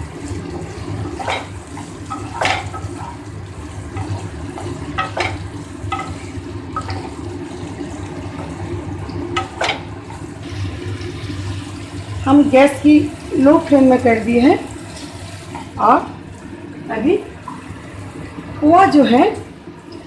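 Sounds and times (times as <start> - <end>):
vegetables sizzling in oil: 0.0 - 19.5.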